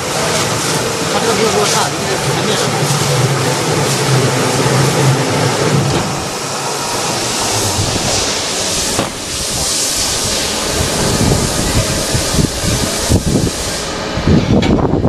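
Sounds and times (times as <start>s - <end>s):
debarking machine running: 0.0s - 15.0s
low hum: 0.0s - 15.0s.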